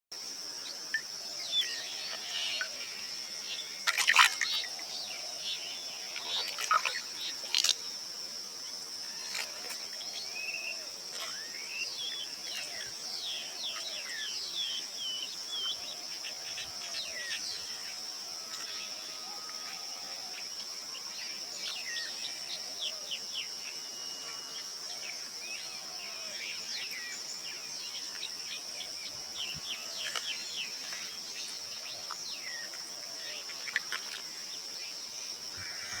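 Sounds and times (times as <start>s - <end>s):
high insect drone: 0.2s - 36.0s.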